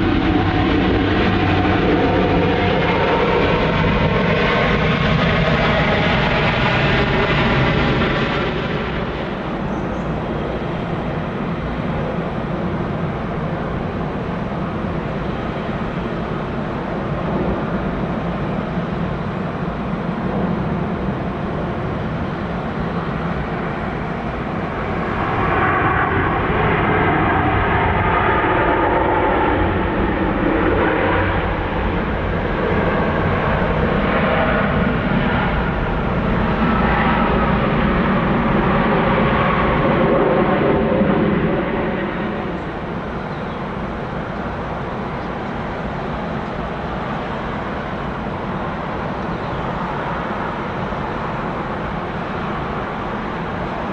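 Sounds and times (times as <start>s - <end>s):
jet airliner engines running: 0.0s - 53.9s.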